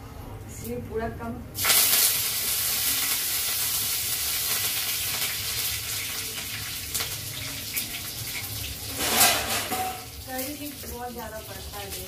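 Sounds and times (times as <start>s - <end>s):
spices sizzling in hot oil: 1.6s - 12.0s.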